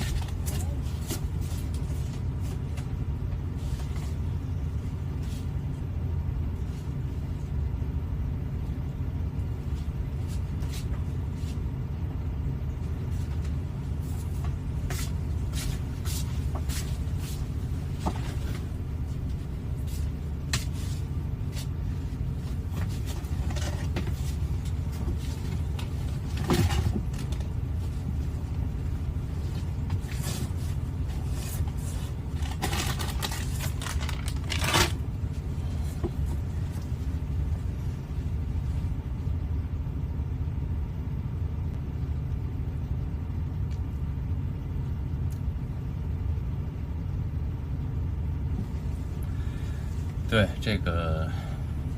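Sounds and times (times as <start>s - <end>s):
steady low rumble: 0.0s - 51.9s.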